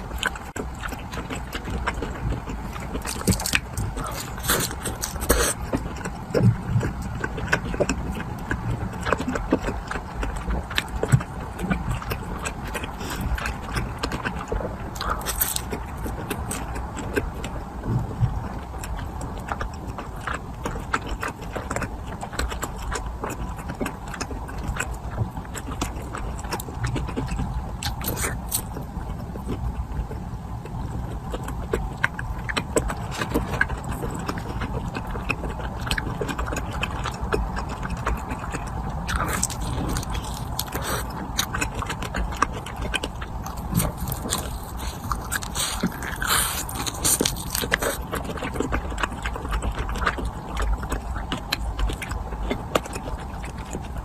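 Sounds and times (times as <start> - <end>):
chewing and crunching food: 0.0 - 54.0
steady low hum: 0.0 - 54.0.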